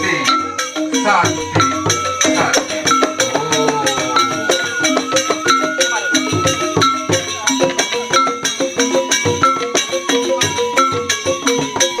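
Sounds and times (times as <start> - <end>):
bamboo xylophones playing fast: 0.0 - 12.0
drum kit beat with cymbal: 0.0 - 12.0.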